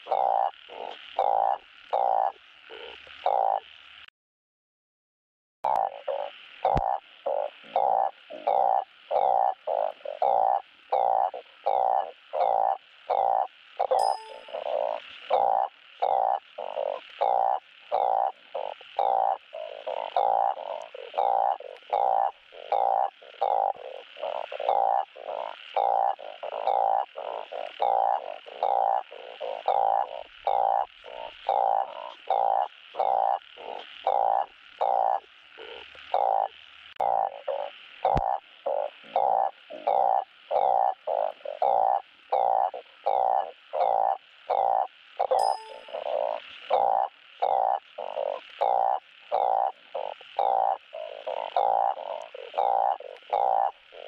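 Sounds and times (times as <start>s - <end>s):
frog croaking: 0.0s - 4.1s, 5.7s - 54.0s.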